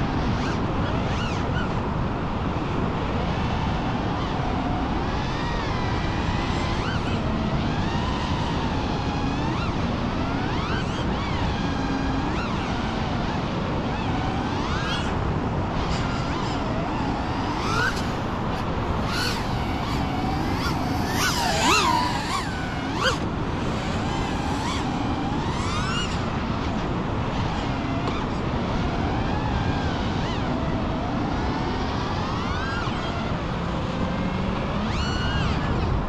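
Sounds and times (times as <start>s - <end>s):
quadcopter motors whining: 0.0s - 36.0s
steady rushing background: 0.0s - 36.0s.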